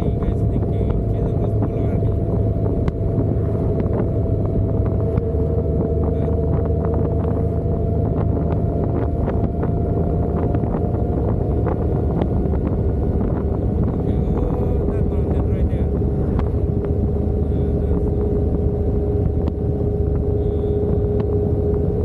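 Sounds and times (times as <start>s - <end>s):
faint whine: 0.0s - 22.0s
motorcycle engine drone: 0.0s - 22.0s
wind noise on microphone: 0.0s - 22.0s.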